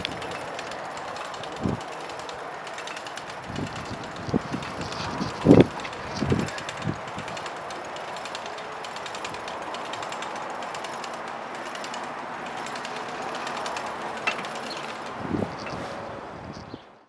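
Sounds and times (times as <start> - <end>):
rapid mechanical rattling: 0.0 - 15.9.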